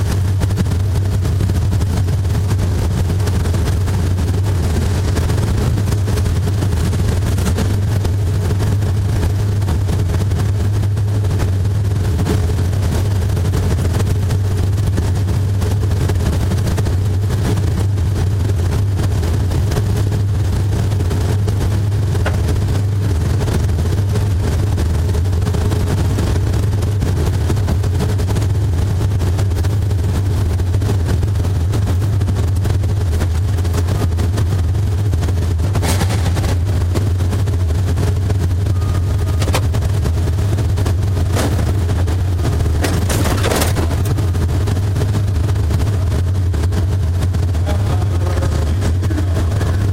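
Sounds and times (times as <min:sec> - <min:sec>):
race car engine running hard: 0:00.0 - 0:49.9
rattle and buffeting: 0:00.0 - 0:49.9.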